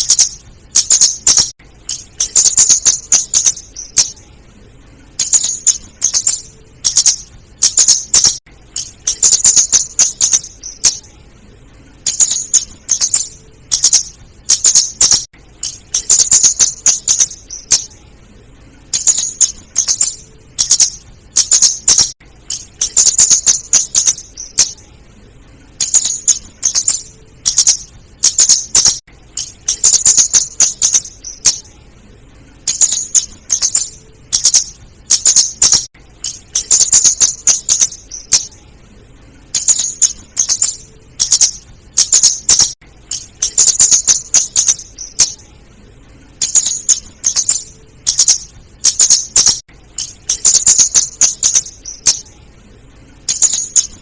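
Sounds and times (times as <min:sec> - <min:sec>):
bird ticking chip calls: 0:00.0 - 0:04.2, 0:05.1 - 0:11.1, 0:12.0 - 0:18.0, 0:18.9 - 0:24.8, 0:25.8 - 0:31.7, 0:32.6 - 0:38.6, 0:39.5 - 0:45.4, 0:46.4 - 0:52.3, 0:53.3 - 0:54.0.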